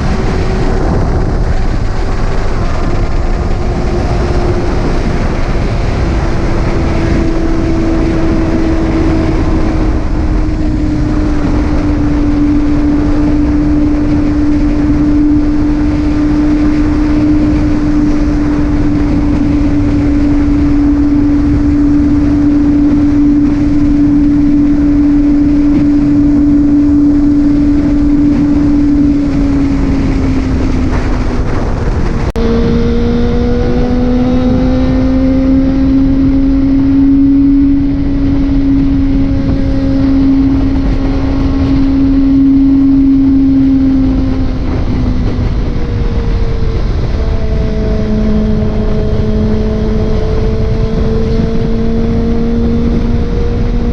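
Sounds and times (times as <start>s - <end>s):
motorcycle engine droning: 0.0s - 53.9s
wind and road noise: 0.0s - 53.9s.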